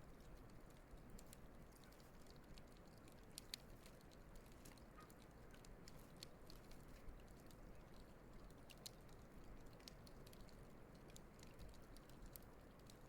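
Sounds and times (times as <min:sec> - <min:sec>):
campfire crackling faintly: 0:00.0 - 0:13.0.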